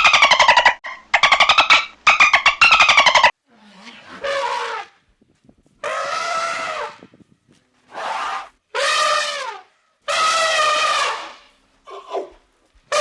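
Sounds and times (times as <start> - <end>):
animal calling loudly: 0.0 - 5.2, 5.8 - 13.0.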